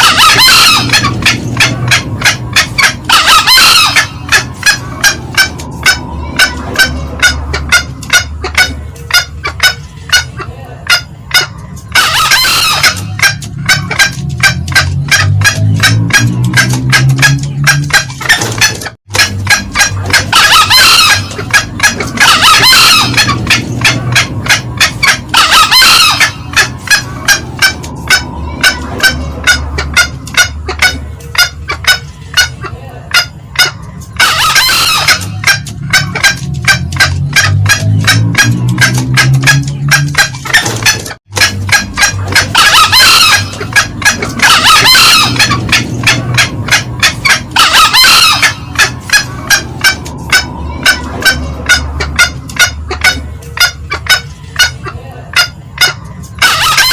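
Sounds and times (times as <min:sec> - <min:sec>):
junglefowl cackling: 0:00.0 - 0:56.9
junglefowl harsh crow: 0:00.0 - 0:56.9.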